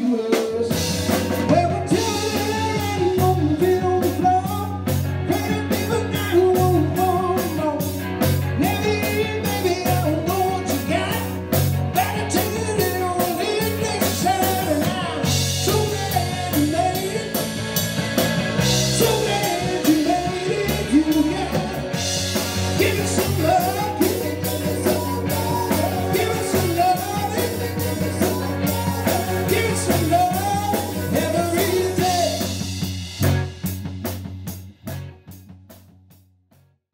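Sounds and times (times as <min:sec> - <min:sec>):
rock band playing: 0:00.0 - 0:36.2.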